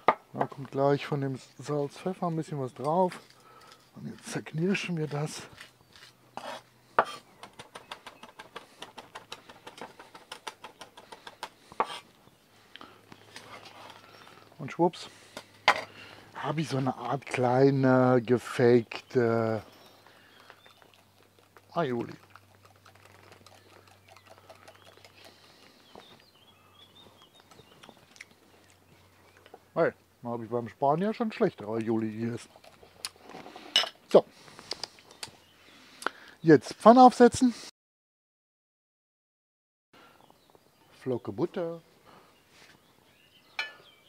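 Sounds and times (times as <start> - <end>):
small birds chirping: 1.2 - 37.1, 40.0 - 44.0.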